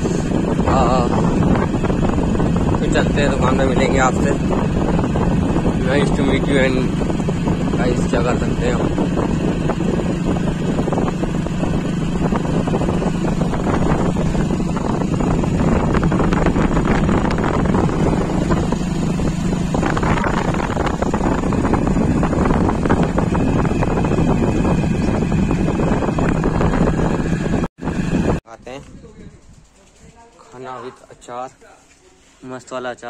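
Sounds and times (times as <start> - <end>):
wind buffeting microphone: 0.0 - 30.3
motorcycle engine running: 0.0 - 30.9.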